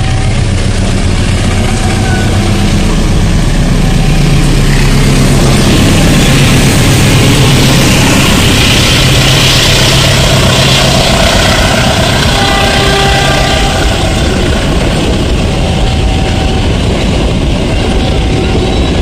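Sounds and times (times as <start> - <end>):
locomotive engine hum: 0.0 - 19.0
train wheels rushing on rail: 0.0 - 19.0.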